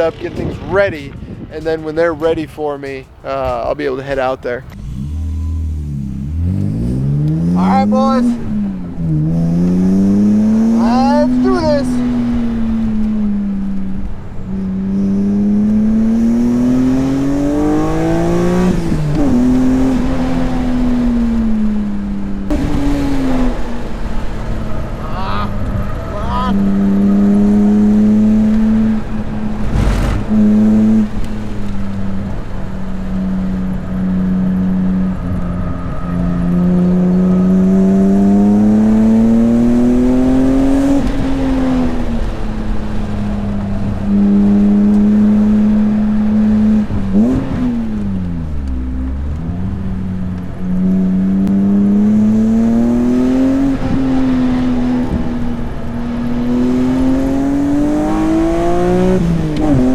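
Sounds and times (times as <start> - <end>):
race car engine accelerating: 3.4 - 59.9.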